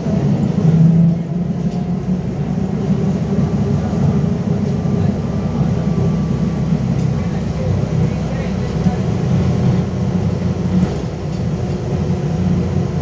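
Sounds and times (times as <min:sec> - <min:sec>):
trolleybus interior rumble: 0:00.0 - 0:13.0.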